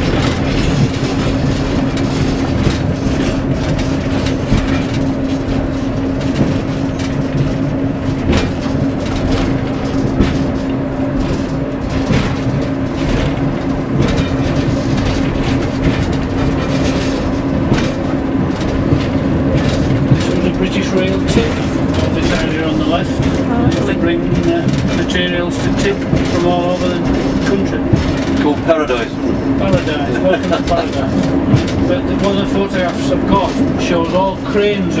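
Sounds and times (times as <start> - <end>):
cab rattling: 0.0 - 35.0
train engine hum: 0.0 - 35.0
wheels clicking on track: 0.0 - 35.0.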